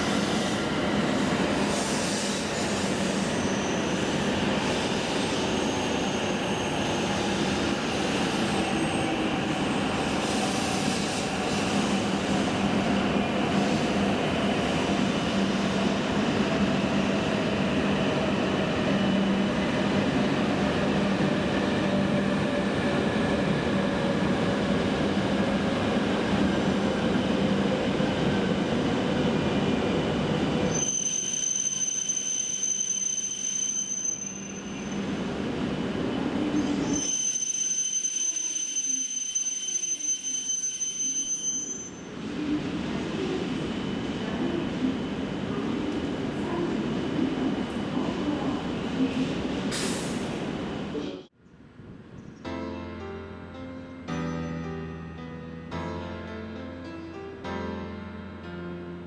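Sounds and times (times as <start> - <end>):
train rumbling into station: 0.0 - 59.0.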